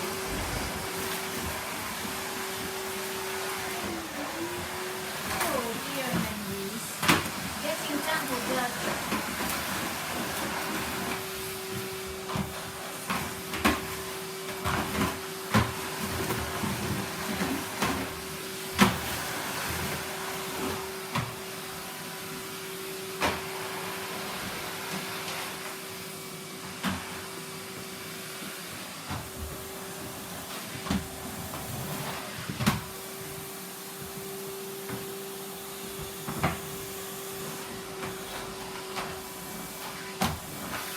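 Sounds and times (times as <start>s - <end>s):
vacuum cleaner motor hum: 0.0s - 40.9s.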